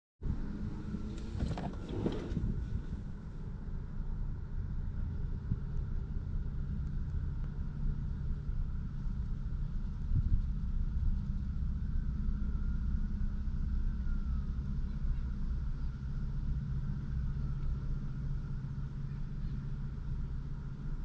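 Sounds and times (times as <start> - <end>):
low rumble: 0.2 - 21.0.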